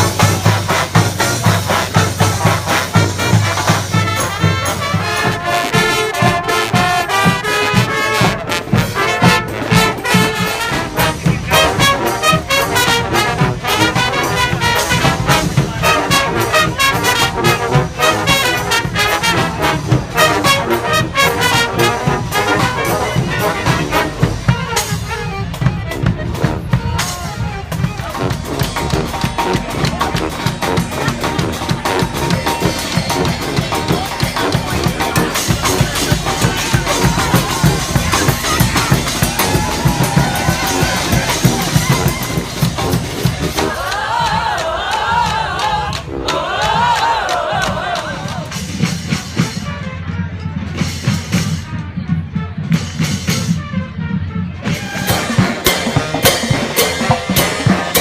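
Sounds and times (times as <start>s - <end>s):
driving drum beat: 0.0s - 58.0s
trumpets and trombones: 0.0s - 58.0s.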